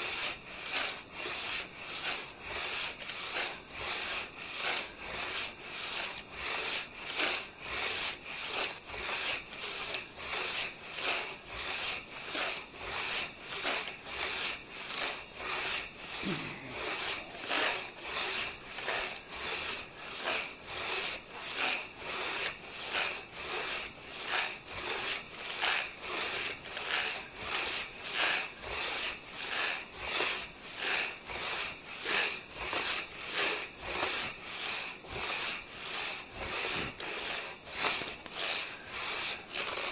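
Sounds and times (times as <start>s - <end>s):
hand saw cutting a log: 0.0s - 39.9s.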